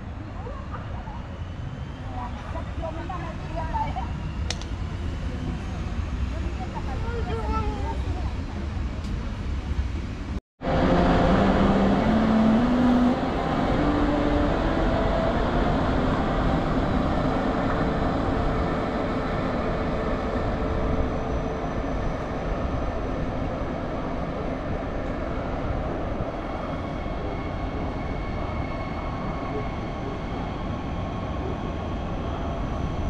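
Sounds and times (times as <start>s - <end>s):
rumble of wheels on rails: 0.0s - 33.0s.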